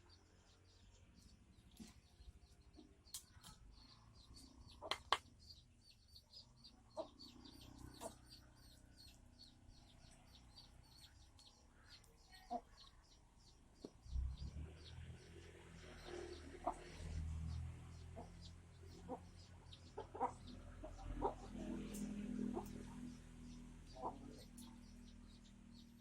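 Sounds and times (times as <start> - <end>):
small bird chirping: 0.0 - 26.0.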